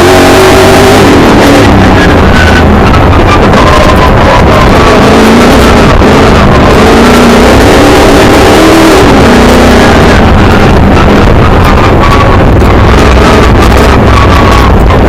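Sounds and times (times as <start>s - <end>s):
loud steady rushing noise: 0.0s - 15.0s
race car engine revving: 0.0s - 15.0s.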